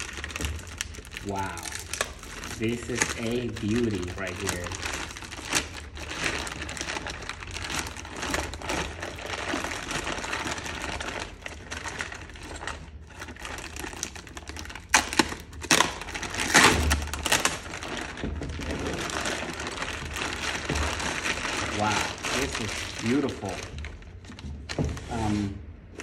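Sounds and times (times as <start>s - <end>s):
plastic bag crinkling: 0.0s - 25.4s.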